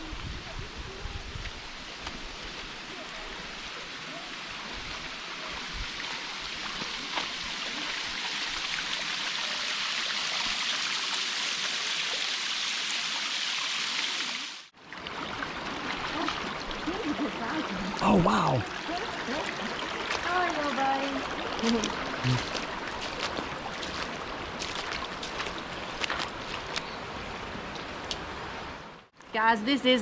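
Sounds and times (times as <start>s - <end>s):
stream water flowing: 1.5s - 29.1s.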